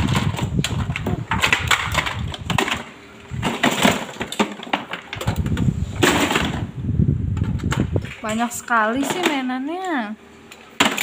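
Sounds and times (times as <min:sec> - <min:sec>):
plastic toys clattering in bin: 0:00.0 - 0:06.7, 0:07.4 - 0:11.0.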